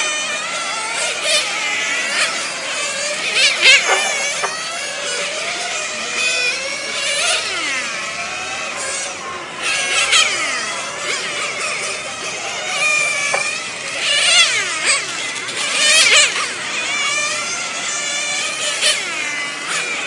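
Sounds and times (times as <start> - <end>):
rc car engines whining: 0.0 - 20.0.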